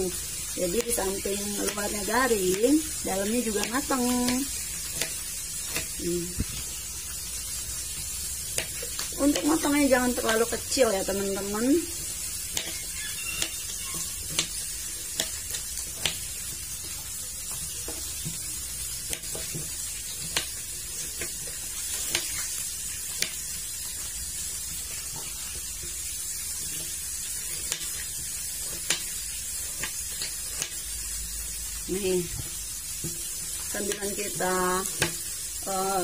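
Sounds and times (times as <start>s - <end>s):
fish sizzling in oil: 0.0s - 36.0s.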